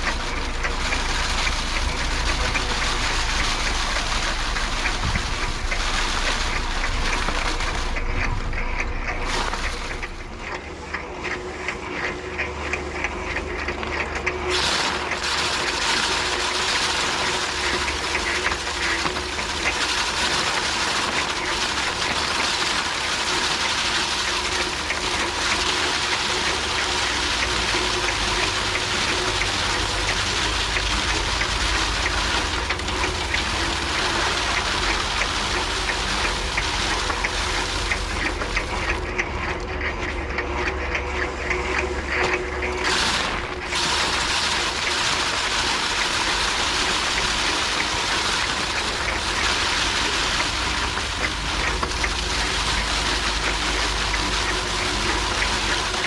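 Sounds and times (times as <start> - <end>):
thresher drum whirring: 0.0 - 56.0.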